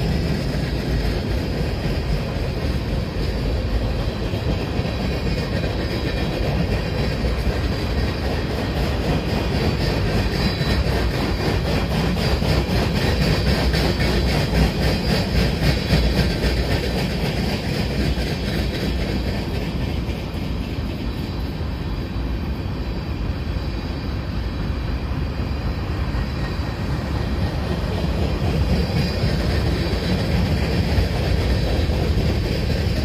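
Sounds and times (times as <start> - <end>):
wheels clicking over rail joints: 0.0 - 21.3, 25.9 - 33.0
freight train wheels rumbling: 0.0 - 33.0.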